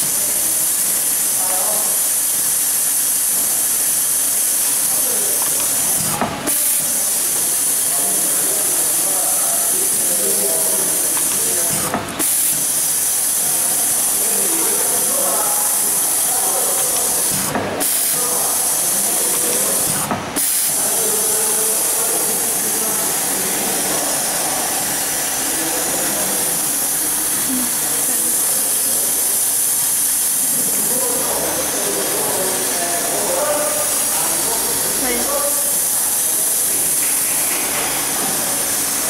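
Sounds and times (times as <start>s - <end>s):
high air hiss from labeller: 0.0s - 39.0s.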